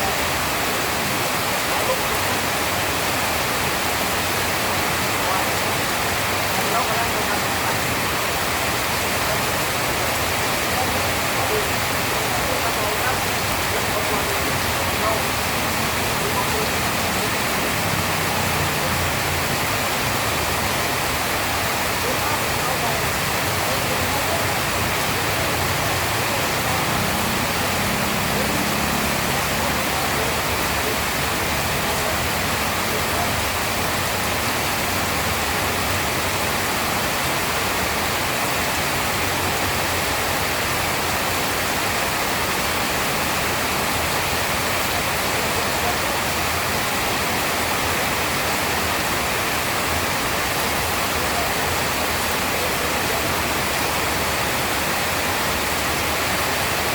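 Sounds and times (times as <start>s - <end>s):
heavy rain hiss: 0.0s - 56.9s.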